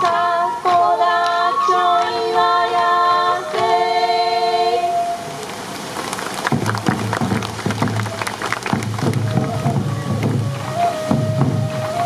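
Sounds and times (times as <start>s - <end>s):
bamboo flutes playing: 0.0s - 12.0s.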